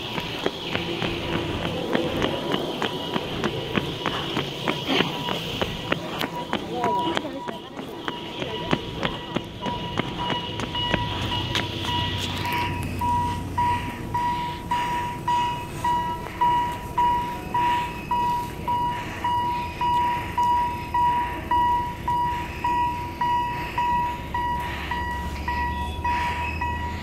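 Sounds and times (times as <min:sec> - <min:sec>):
level crossing signal dinging: 0:00.0 - 0:27.0
low engine rumble: 0:00.0 - 0:27.0.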